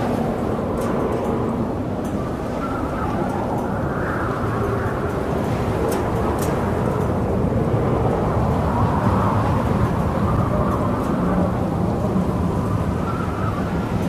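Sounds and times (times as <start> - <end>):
rough choppy water: 0.0 - 14.0
strong storm wind: 0.0 - 14.0.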